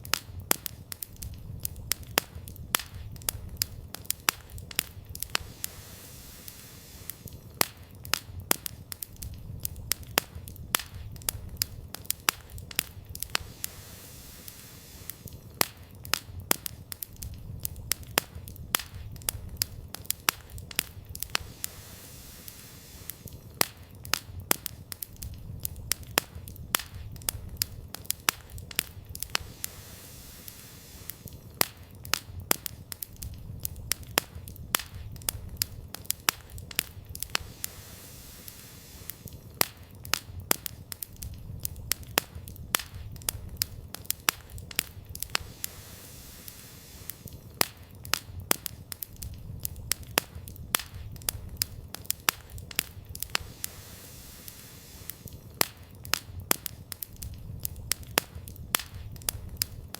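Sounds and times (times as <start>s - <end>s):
firewood crackling and popping: 0.0s - 59.9s
low rumble of flames: 0.0s - 59.9s.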